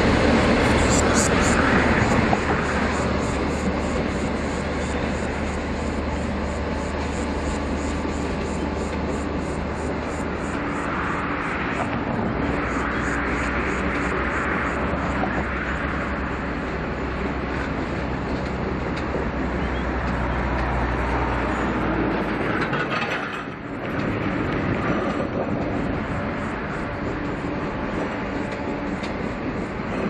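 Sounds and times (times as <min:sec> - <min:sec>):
diesel engines humming: 0:00.0 - 0:30.0
train carriages rolling: 0:00.0 - 0:30.0.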